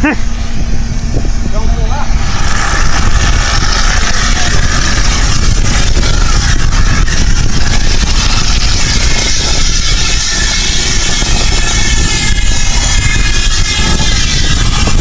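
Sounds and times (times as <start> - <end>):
gas hissing from valve: 0.0 - 15.0
low rumble: 0.0 - 15.0.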